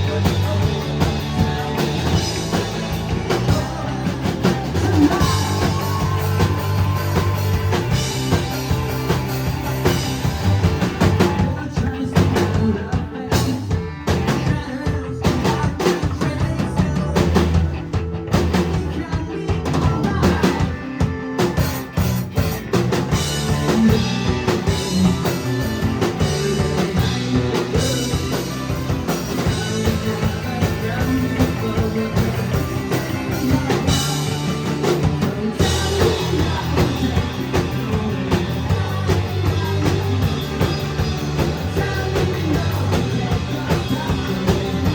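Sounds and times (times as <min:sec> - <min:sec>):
drum kit beat: 0:00.0 - 0:44.9
rock band playing: 0:00.0 - 0:44.9.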